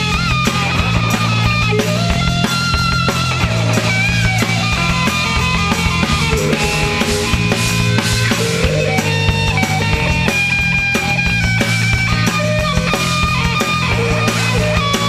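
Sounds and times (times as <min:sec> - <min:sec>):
bass guitar: 0:00.0 - 0:15.0
drum kit: 0:00.0 - 0:15.0
electric guitar lead: 0:00.0 - 0:15.0.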